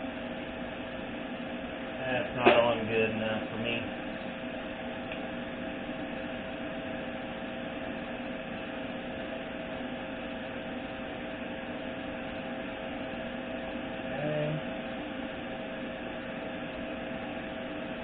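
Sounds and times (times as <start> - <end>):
mechanical hum and hiss: 0.0 - 18.0.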